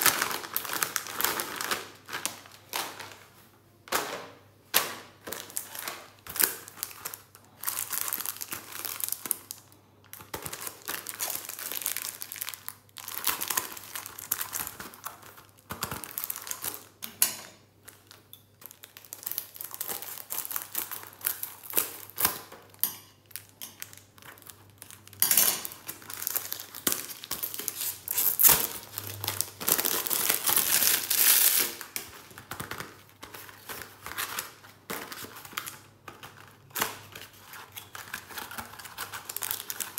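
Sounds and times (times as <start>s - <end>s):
plastic wrapper crinkling and tearing: 0.0s - 4.2s, 4.8s - 39.9s.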